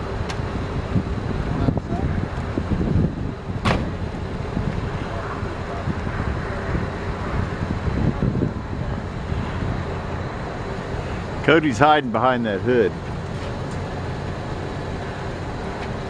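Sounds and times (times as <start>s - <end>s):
truck engine idling: 0.0s - 16.0s
wind buffeting microphone: 0.0s - 16.0s.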